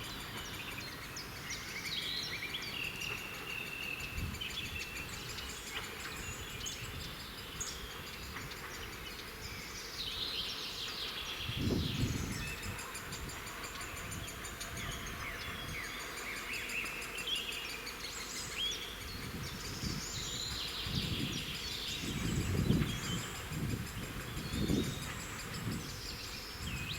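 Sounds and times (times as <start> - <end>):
songbirds singing: 0.0 - 26.9.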